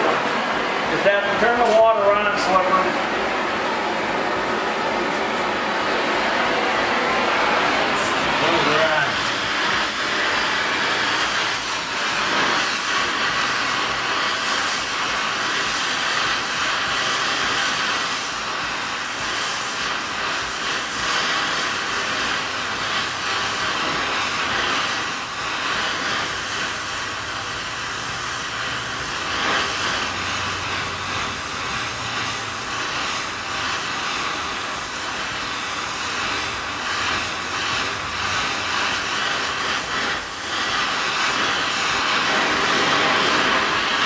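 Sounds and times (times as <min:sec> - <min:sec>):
torch flame hissing: 0:00.0 - 0:44.0.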